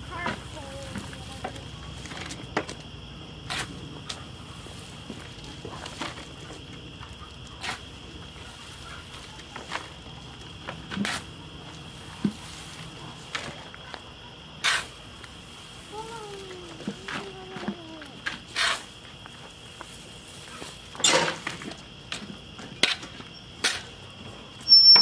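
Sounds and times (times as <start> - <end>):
shovels scooping wood chips: 0.0 - 25.0.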